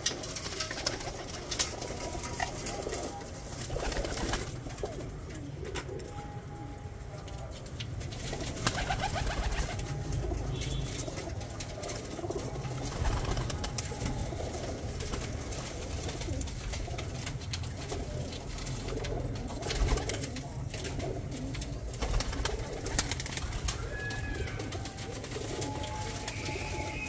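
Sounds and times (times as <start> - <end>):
pigeons cooing: 0.0 - 6.2, 7.4 - 27.0.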